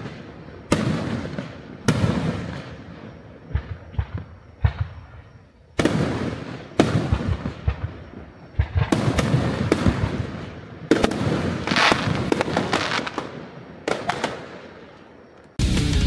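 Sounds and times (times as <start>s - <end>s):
fireworks bangs: 0.0s - 15.3s.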